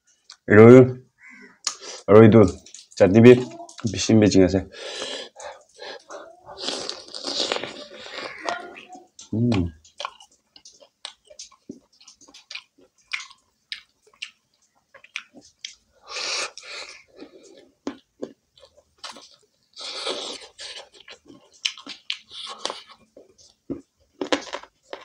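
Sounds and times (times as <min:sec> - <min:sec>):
chewing and mouth clicks: 0:02.5 - 0:04.1, 0:04.9 - 0:25.0.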